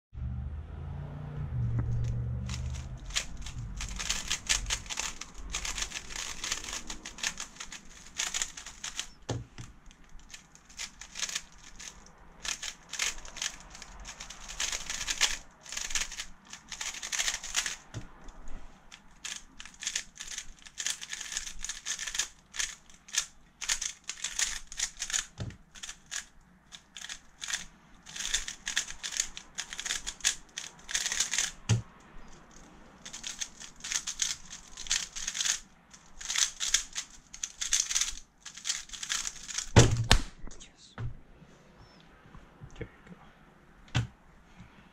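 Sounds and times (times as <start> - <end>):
puzzle cube clicking: 2.5 - 40.3.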